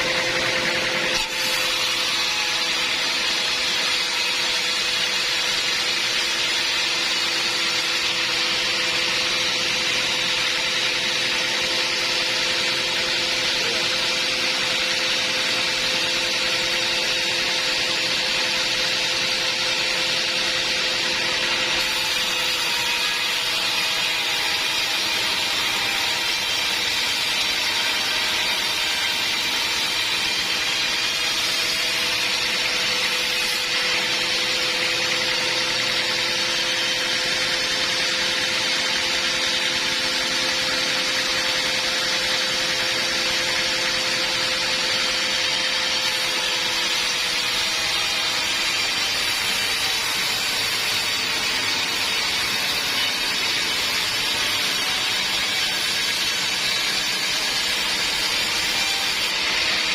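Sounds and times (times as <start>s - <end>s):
band saw whining: 0.0s - 59.9s.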